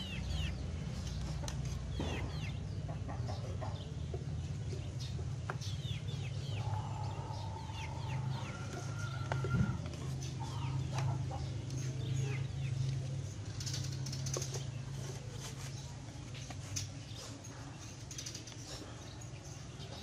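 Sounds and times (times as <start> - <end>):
chickens clucking: 0.0 - 20.0
steady low hum: 0.0 - 20.0.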